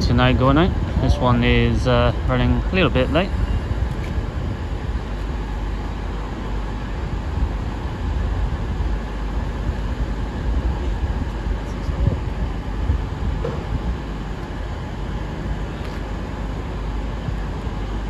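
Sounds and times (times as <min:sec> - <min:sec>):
diesel train engines running: 0:00.0 - 0:18.0.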